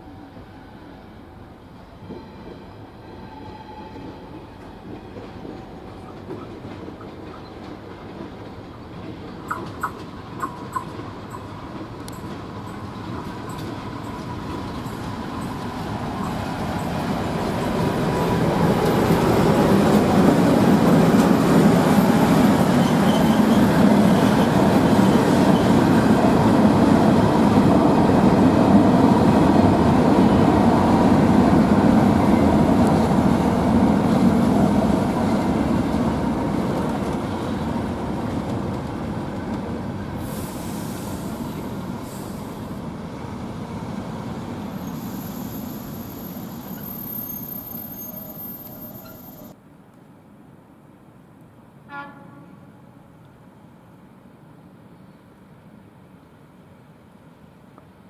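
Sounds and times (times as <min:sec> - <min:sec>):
diesel locomotive engine: 0:00.0 - 0:49.6
train wheels rolling: 0:02.0 - 0:49.6.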